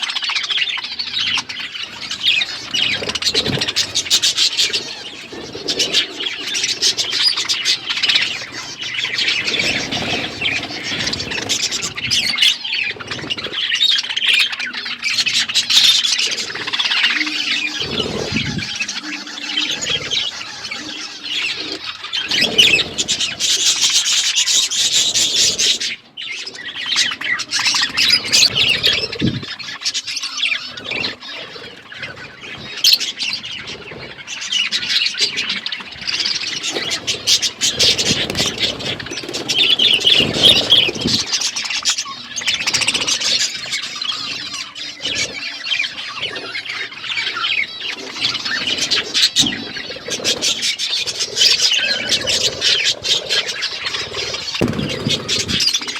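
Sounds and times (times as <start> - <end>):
bird squawks: 0.0 - 55.9
budgerigars chattering and chirping: 0.0 - 55.9
wing flutters: 0.0 - 55.9.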